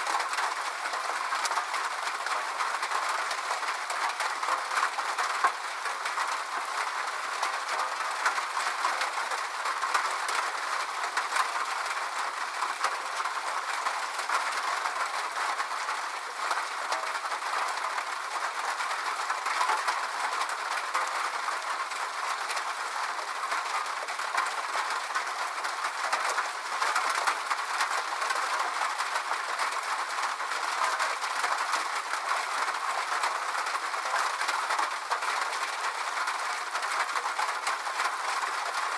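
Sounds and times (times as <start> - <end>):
rain on a metal roof: 0.0 - 38.9.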